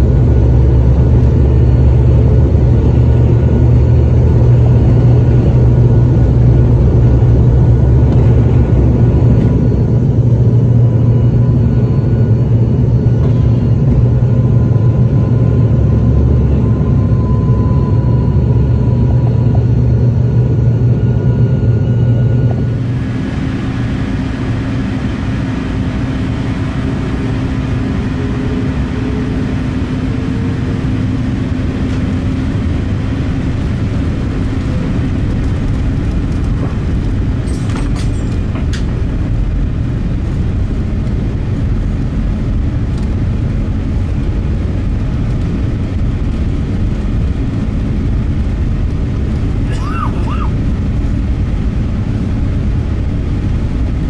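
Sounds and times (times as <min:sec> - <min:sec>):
airliner engine cabin noise: 0:00.0 - 0:54.0.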